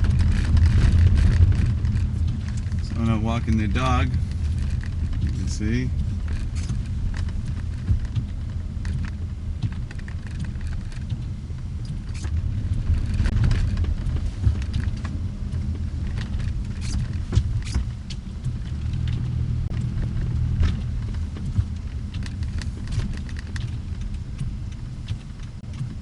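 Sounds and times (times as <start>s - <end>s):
car engine and road rumble: 0.0s - 26.0s
light clicks and ticks: 0.0s - 26.0s.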